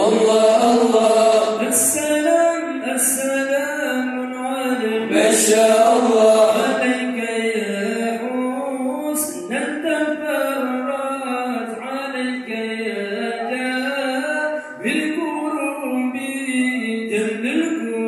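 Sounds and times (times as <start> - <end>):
men chanting into microphones: 0.0 - 18.0.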